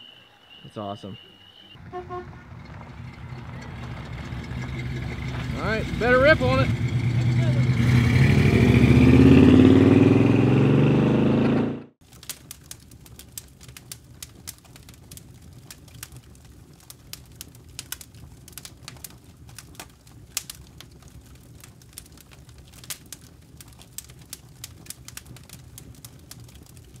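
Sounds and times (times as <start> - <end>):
campfire crackling and popping: 1.4 - 9.4, 12.0 - 27.0.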